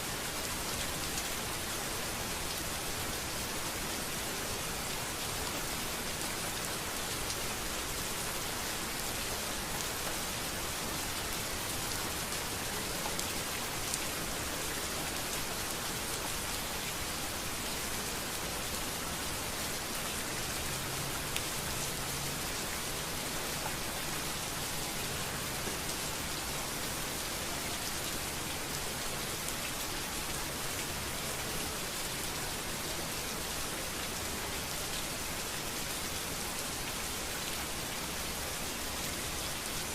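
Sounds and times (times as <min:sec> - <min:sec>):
rain falling on a street: 0:00.0 - 0:39.9.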